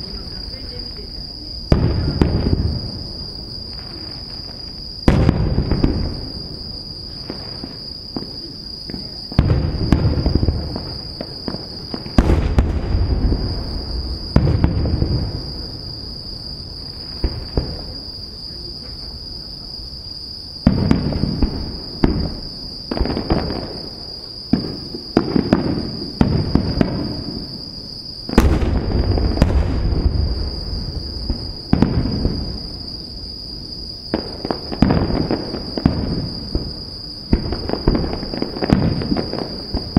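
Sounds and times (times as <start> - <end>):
fireworks booming: 0.0 - 39.9
insect trill: 0.0 - 39.9.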